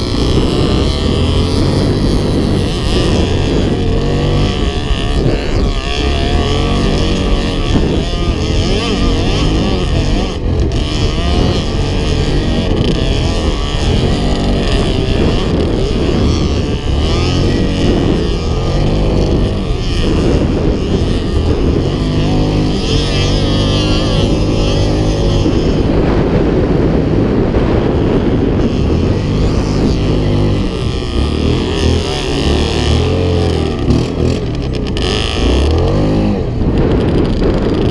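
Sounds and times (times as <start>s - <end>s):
quad bike engine revving: 0.0s - 37.9s.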